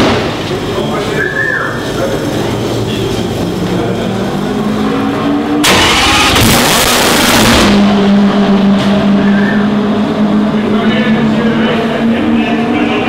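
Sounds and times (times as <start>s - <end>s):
racing car engine idling and revving: 1.9s - 13.0s.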